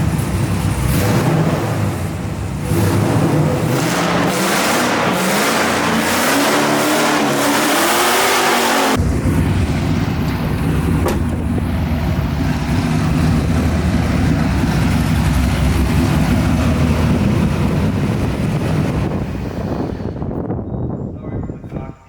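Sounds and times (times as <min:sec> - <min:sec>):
car engine running: 0:00.0 - 0:20.6.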